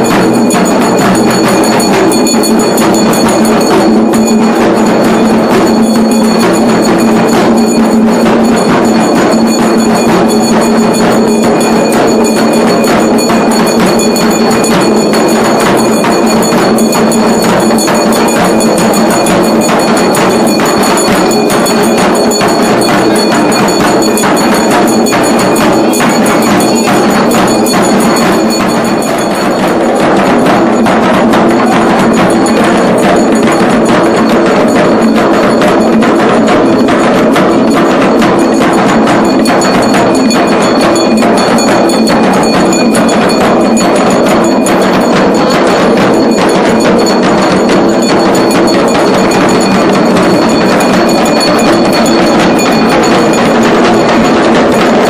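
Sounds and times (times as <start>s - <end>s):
barrel drums beaten with sticks: 0.0s - 55.0s
metallic ringing: 0.0s - 55.0s.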